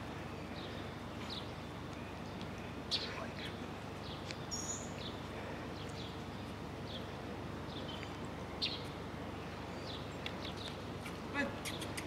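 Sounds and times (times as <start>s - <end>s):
birds chirping: 0.0s - 12.0s
low background noise: 0.0s - 12.0s.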